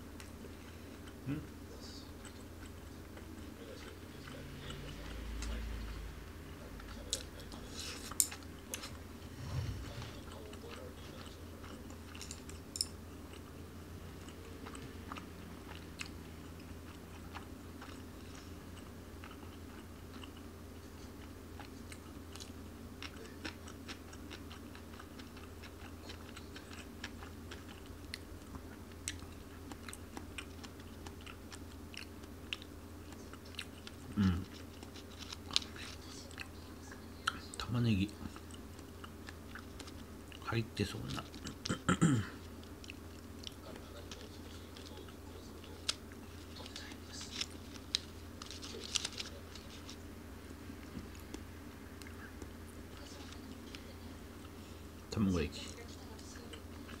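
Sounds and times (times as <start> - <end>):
person chewing food: 0.0 - 55.2
steady low hum: 0.0 - 57.0.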